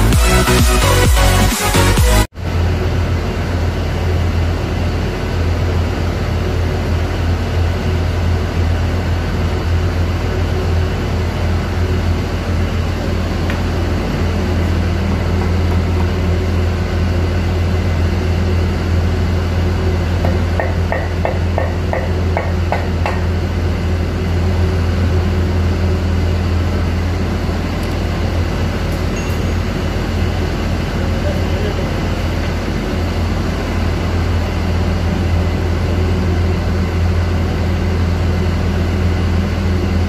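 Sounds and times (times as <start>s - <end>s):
machinery drone with hum: 0.0s - 40.0s.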